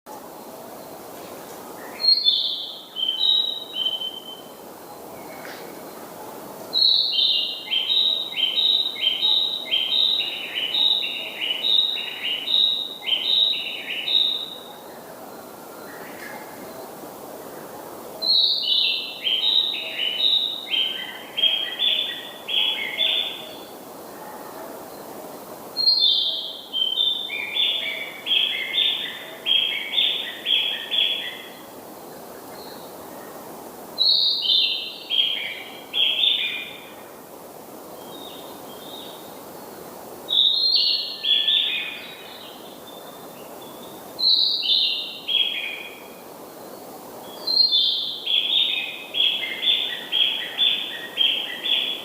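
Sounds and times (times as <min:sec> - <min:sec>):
songbird singing: 0:00.1 - 0:52.0.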